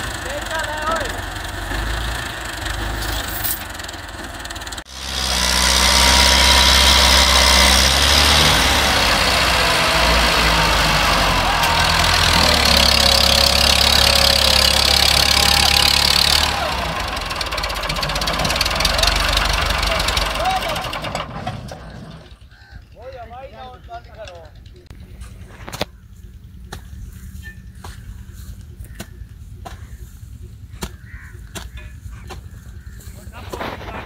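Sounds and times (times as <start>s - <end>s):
diesel tractor engine: 0.0s - 34.0s.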